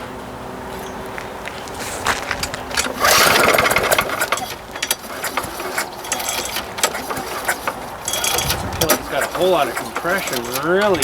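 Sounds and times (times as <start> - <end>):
lawn mower engine turning over: 0.4 - 11.0
recoil starter pull: 2.0 - 11.0
clicks and rattles: 2.1 - 11.0.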